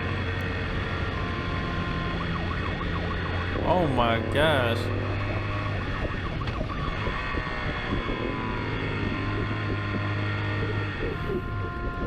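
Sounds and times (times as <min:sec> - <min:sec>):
police car engine: 0:00.0 - 0:12.0
police siren: 0:00.0 - 0:12.0.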